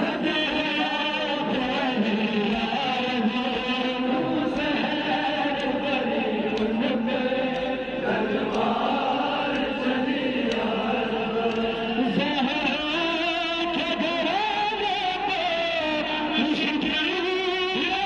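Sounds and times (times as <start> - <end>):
voices chanting a lament: 0.0 - 18.0.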